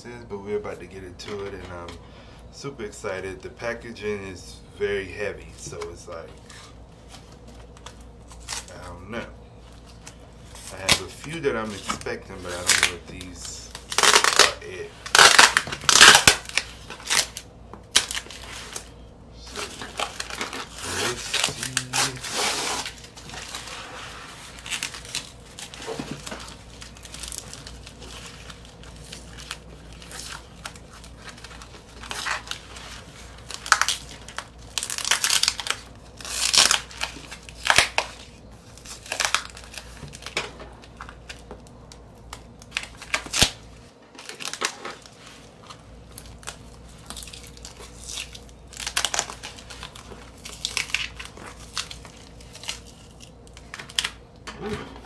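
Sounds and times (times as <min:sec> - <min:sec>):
packing tape peeling and ripping: 0:07.7 - 0:08.7, 0:09.9 - 0:43.6, 0:44.2 - 0:54.2.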